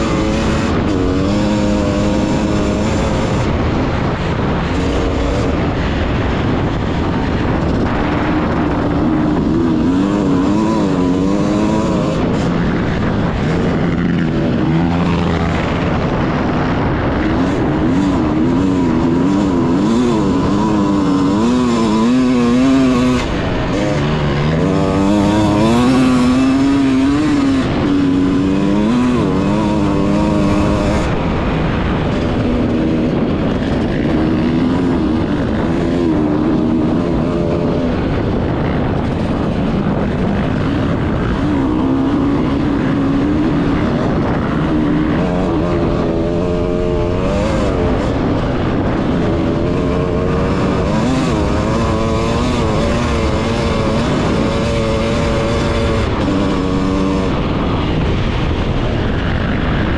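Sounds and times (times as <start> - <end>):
racing engines revving: 0.0 - 59.9
steady noisy rush: 0.0 - 59.9.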